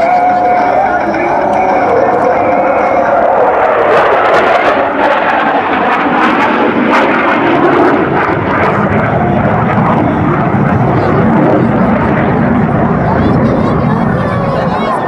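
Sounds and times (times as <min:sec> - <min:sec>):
jet roar flying past: 0:00.0 - 0:15.0.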